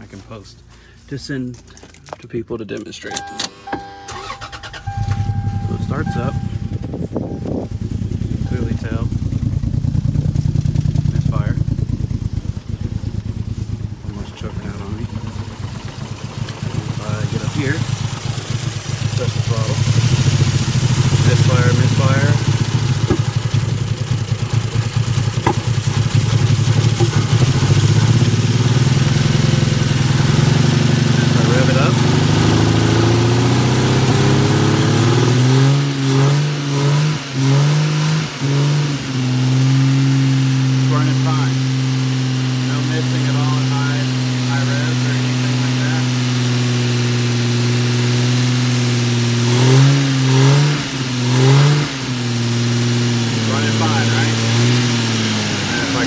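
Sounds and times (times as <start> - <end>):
car engine running unevenly: 0.0 - 56.0.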